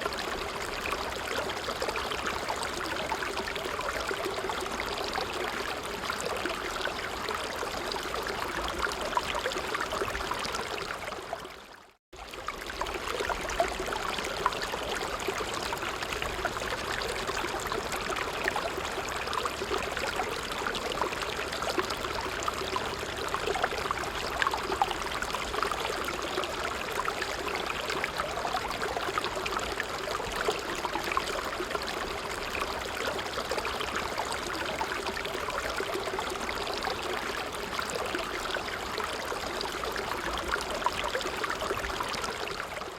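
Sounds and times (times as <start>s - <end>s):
stream running over stones: 0.0s - 42.9s.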